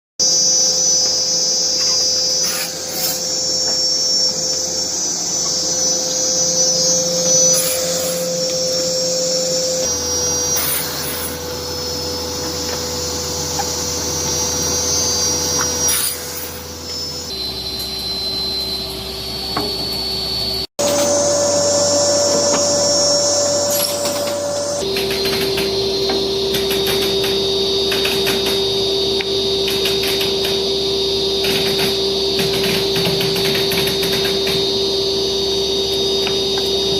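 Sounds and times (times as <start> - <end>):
saw cutting wooden boards: 0.2 - 17.5, 19.5 - 36.9
circular saw whining: 0.2 - 36.9.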